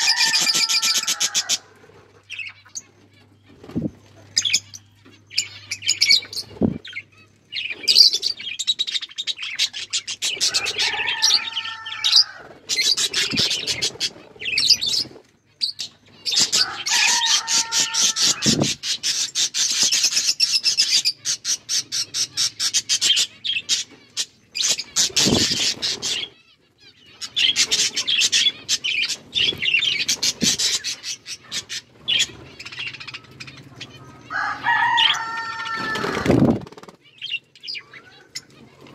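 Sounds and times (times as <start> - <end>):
budgies chattering and chirping: 0.0 - 38.9.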